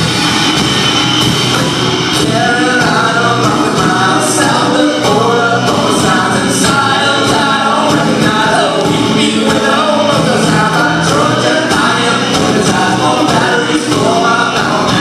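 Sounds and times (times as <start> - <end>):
layered singing voices: 0.0 - 15.0
live band music: 0.0 - 15.0.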